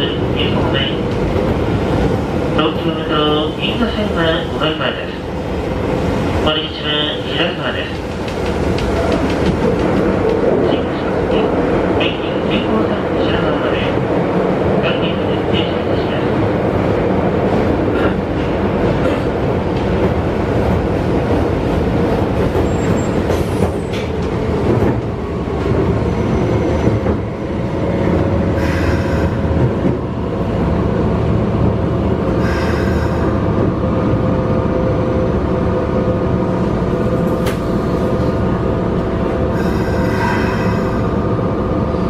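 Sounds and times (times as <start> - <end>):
train wheels and motors rumbling: 0.0 - 42.0.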